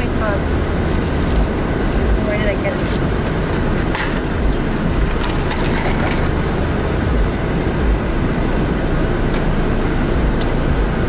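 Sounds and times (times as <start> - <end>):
sharp clicks and rattles: 0.0 - 11.0
vehicle rumble: 0.0 - 11.0.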